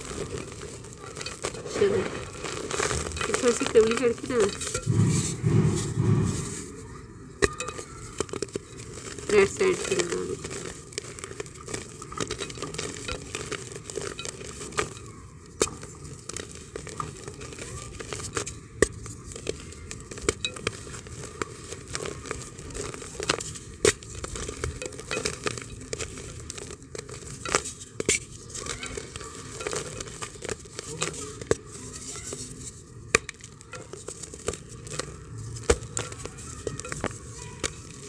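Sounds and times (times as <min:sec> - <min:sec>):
earth block crumbling by hand: 0:00.0 - 0:06.0, 0:07.4 - 0:38.0.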